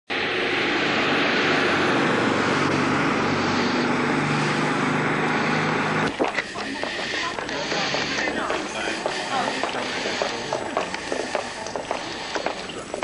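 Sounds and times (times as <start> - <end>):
engine roar: 0.1 - 13.0.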